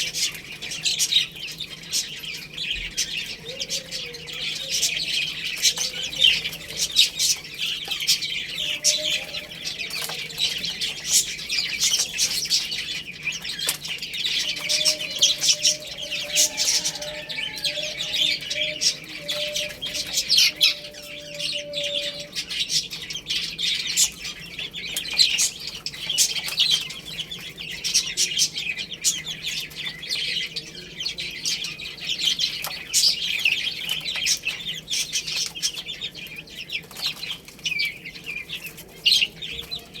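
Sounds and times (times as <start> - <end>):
baby chicks peeping: 0.0 - 40.0.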